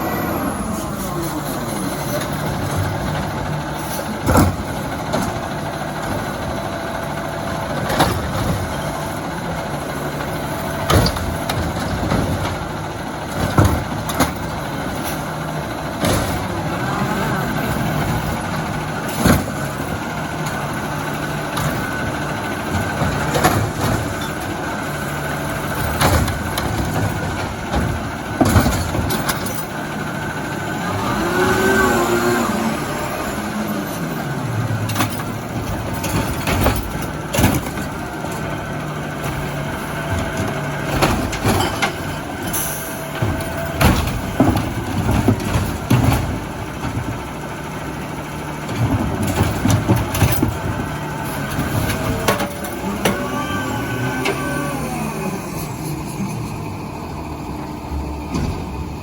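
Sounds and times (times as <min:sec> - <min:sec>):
garbage truck engine revving: 0:00.0 - 0:59.0.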